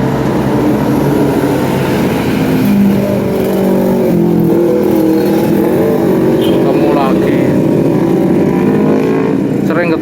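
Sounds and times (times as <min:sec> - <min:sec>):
motor vehicle engine running: 0:00.0 - 0:10.0.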